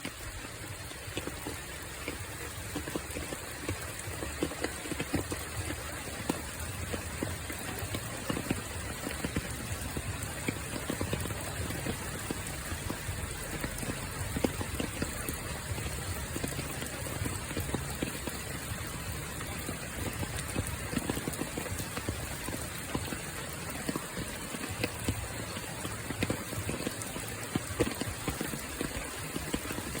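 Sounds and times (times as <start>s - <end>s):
raindrops ticking on hard surface: 0.0s - 30.0s
steady rainfall: 0.0s - 30.0s.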